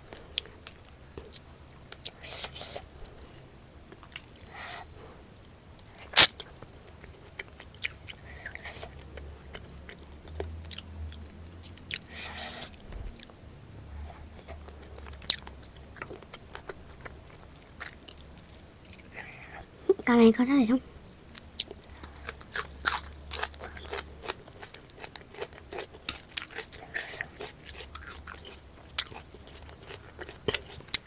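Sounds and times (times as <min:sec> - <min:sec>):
chewing with crisp crunches: 0:00.0 - 0:19.8, 0:21.0 - 0:31.0.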